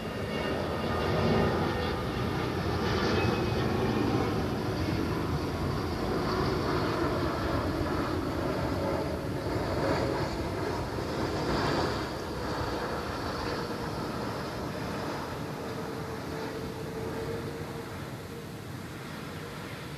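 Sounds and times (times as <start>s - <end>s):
jet engine rushing: 0.0s - 19.9s.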